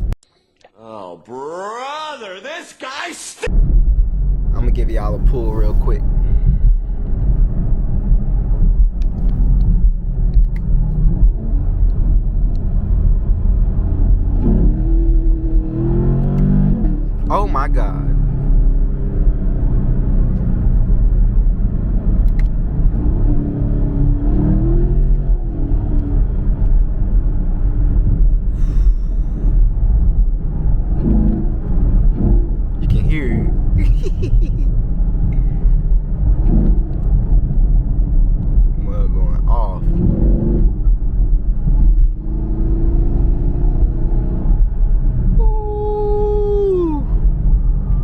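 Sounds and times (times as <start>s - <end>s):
car engine at full throttle: 3.5s - 48.0s.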